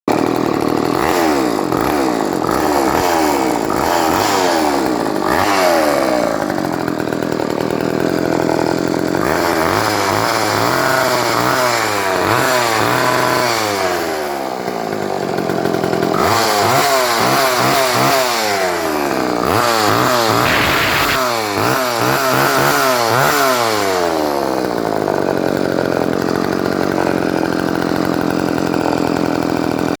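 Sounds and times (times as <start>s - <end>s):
chainsaw revving: 0.1s - 30.0s.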